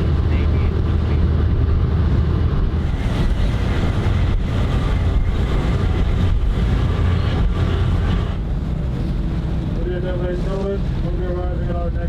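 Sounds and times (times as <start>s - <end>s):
boat engine rumble: 0.0s - 12.0s
wind and water noise: 0.0s - 12.0s.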